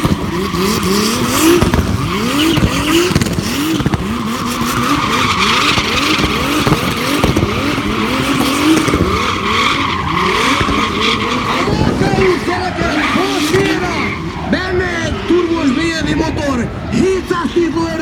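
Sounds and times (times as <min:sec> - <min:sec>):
car engine revving: 0:00.0 - 0:18.0
tyres screeching: 0:00.0 - 0:18.0.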